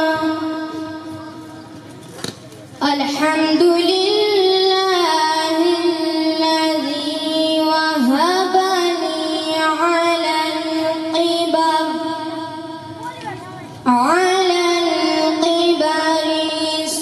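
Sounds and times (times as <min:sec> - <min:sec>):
boy singing unaccompanied: 0:00.0 - 0:01.7, 0:02.8 - 0:17.0.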